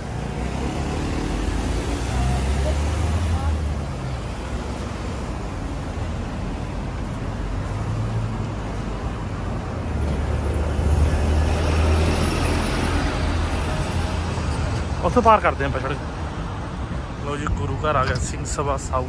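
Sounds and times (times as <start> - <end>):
bus engine rumble: 0.0 - 19.0
passing cars and vans: 0.0 - 19.0.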